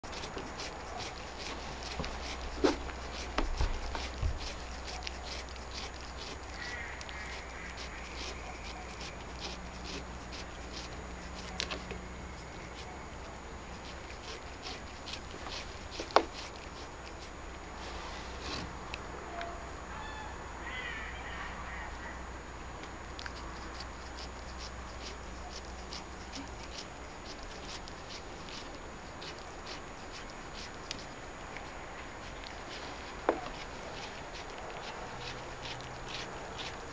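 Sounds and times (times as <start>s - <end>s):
cat chewing cucumber: 0.0s - 19.0s, 22.9s - 36.9s.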